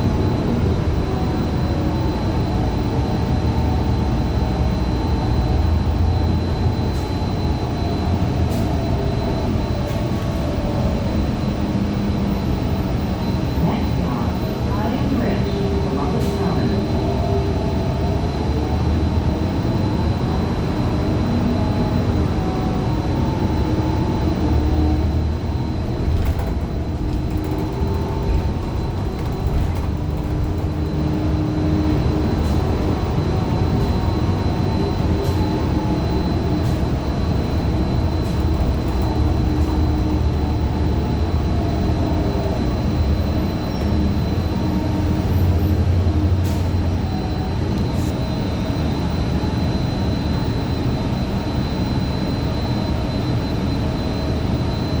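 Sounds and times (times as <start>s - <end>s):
bus engine rumble with whining: 0.0s - 55.0s
thin steady high whine: 10.5s - 55.0s.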